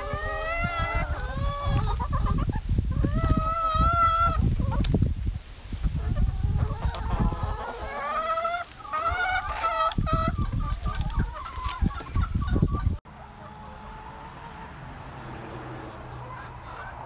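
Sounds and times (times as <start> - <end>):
hens clucking and calling: 0.0 - 17.0.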